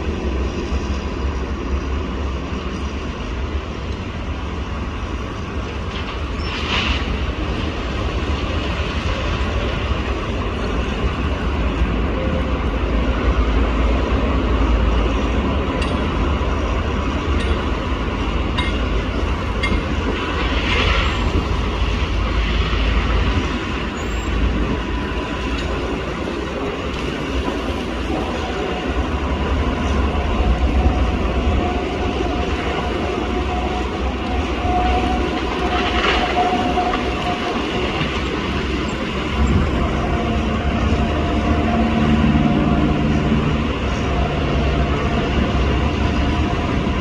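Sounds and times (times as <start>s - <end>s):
rail vehicle rumbling on track: 0.0s - 47.0s.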